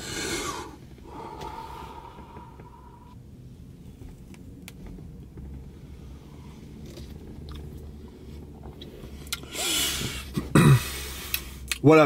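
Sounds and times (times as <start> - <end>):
low rumble inside a car: 0.0 - 12.0.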